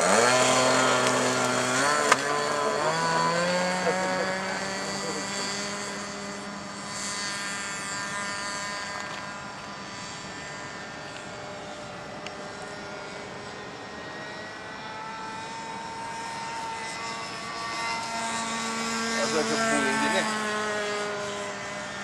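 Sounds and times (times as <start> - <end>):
model airplane motor whining: 0.0 - 22.0.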